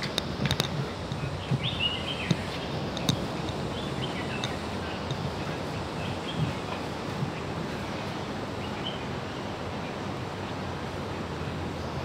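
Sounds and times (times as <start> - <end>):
birds chirping: 0.0 - 12.0
outdoor background hiss: 0.0 - 12.0.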